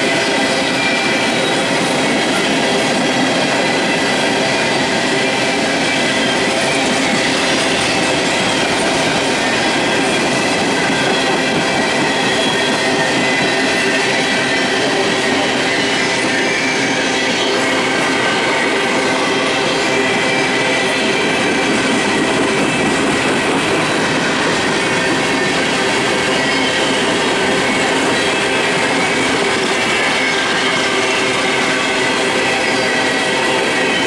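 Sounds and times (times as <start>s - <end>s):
train wheels rushing on rail: 0.0s - 34.0s.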